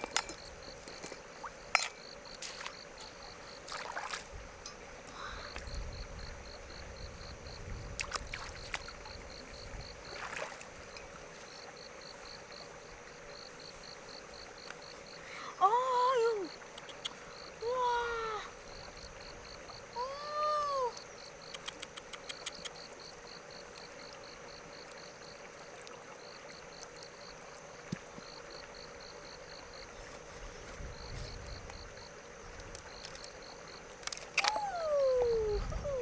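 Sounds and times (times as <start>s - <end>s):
insect chirping: 0.0s - 36.0s.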